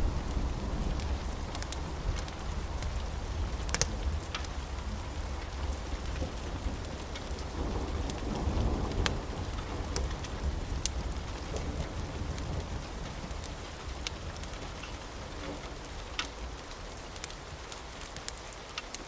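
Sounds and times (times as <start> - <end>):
thunder rumbling: 0.0 - 15.9
steady rain: 0.0 - 19.0.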